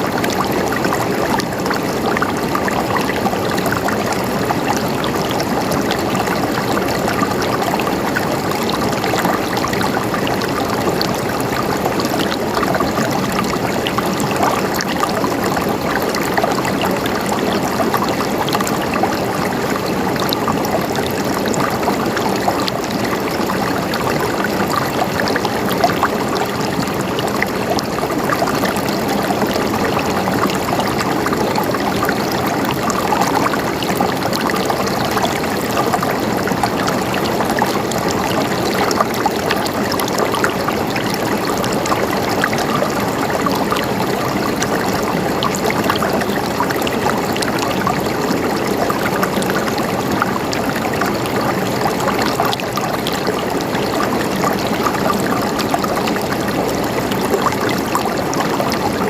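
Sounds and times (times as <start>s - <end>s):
water gurgling and splashing: 0.0s - 59.0s.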